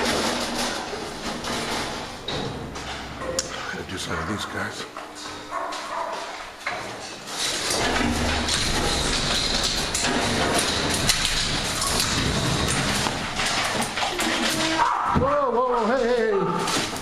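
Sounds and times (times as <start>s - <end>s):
dog food rattling in metal bowls: 0.0s - 3.4s, 4.9s - 17.0s.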